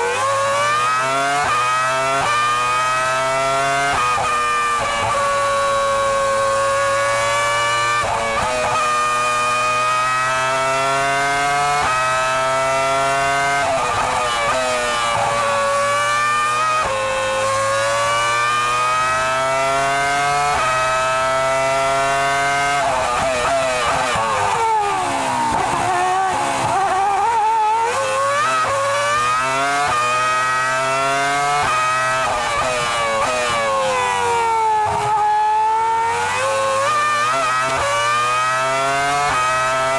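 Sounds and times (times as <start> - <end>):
racing car engine at high revs: 0.0 - 39.9.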